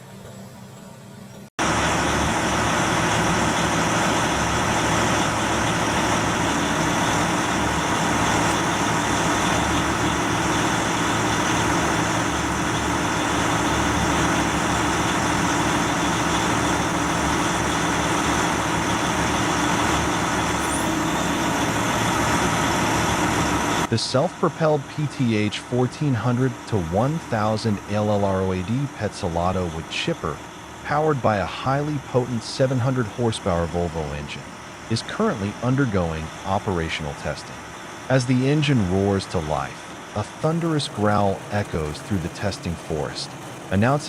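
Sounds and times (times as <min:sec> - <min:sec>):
wood chipper running: 0:01.6 - 0:44.0.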